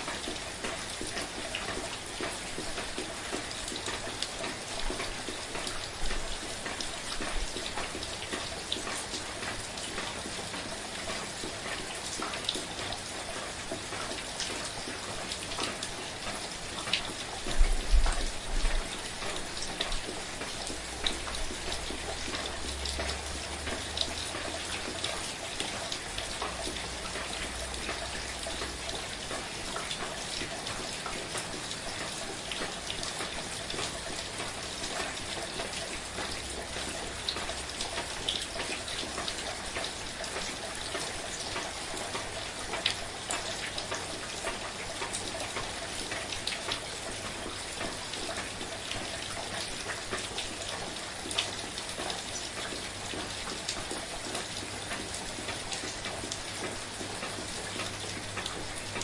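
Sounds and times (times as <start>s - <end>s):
soft steady rain: 0.0s - 59.0s
water drips: 0.0s - 59.0s.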